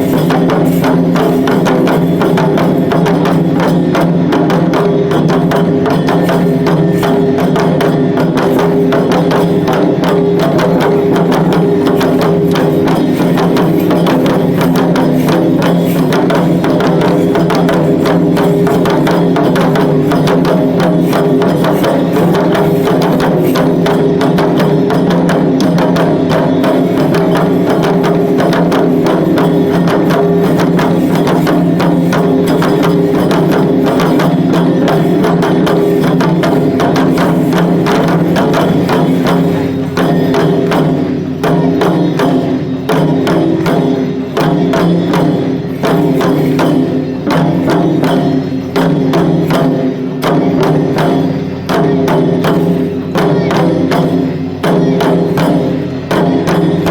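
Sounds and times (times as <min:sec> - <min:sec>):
drums in fast rhythm: 0:00.0 - 0:56.9.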